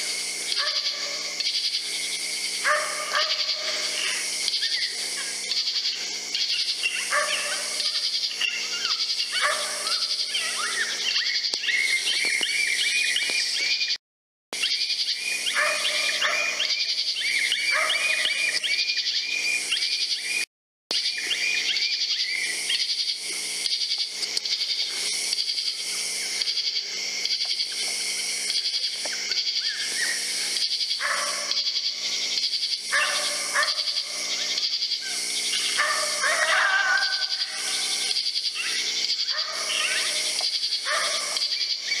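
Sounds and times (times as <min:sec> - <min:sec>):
electronic high-pitched animal calls: 0:00.0 - 0:02.0, 0:02.6 - 0:14.0, 0:14.6 - 0:27.8, 0:28.5 - 0:42.0.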